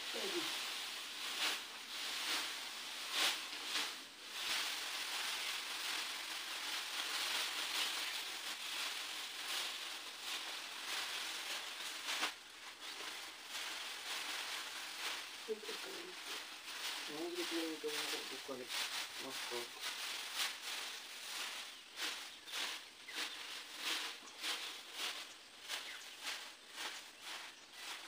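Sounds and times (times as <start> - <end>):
dry straw rustling and crackling: 0.0 - 28.0
straw bundles swishing: 0.0 - 28.0.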